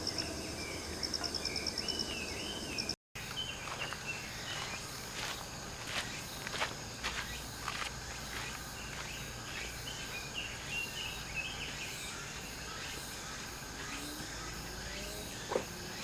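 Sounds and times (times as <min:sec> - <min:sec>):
high insect hum: 0:00.0 - 0:16.0.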